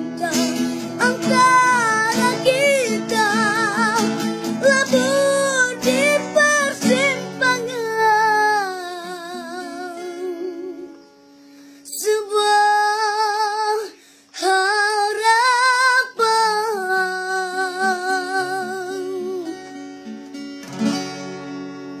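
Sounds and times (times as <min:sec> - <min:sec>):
girl singing with vibrato: 0:00.0 - 0:11.2, 0:11.8 - 0:19.8
plucked acoustic guitar: 0:00.0 - 0:22.0.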